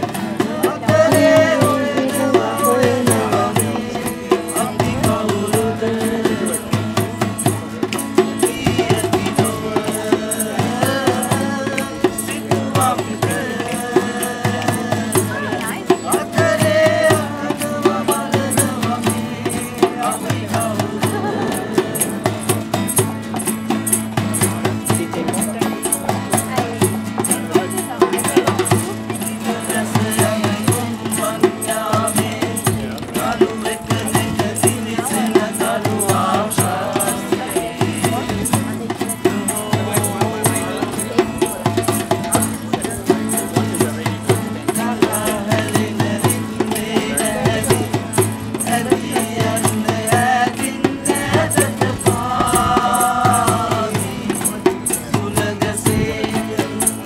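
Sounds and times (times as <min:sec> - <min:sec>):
man singing into a microphone: 0:00.0 - 0:23.5, 0:24.4 - 0:57.0
acoustic guitars strumming: 0:00.0 - 0:57.0
bongos: 0:00.0 - 0:57.0
shaker rhythm: 0:00.0 - 0:57.0.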